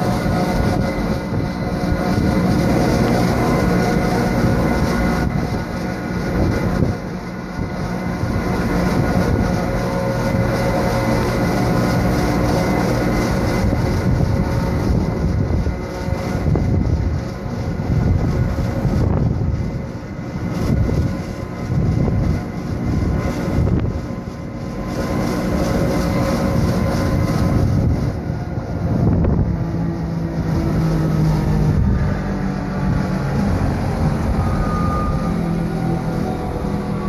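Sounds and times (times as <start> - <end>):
low hum: 0.0 - 37.0
thin steady whine: 0.0 - 37.0
train running gear rumble and rattle: 0.0 - 37.0.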